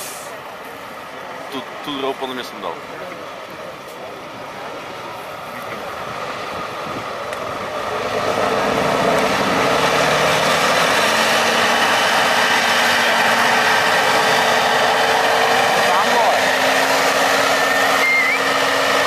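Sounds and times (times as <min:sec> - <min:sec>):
truck diesel engine under load: 0:00.0 - 0:19.0.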